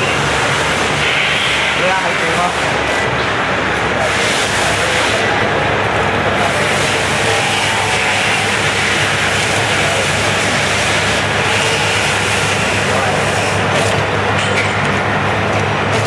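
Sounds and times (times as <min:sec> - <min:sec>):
machine mechanical hum: 0:00.0 - 0:16.0.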